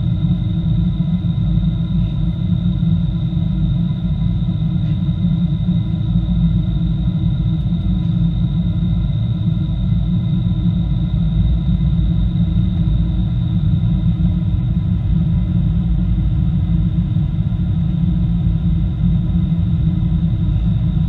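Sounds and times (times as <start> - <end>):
low rumble of airflow and engines: 0.0 - 21.0.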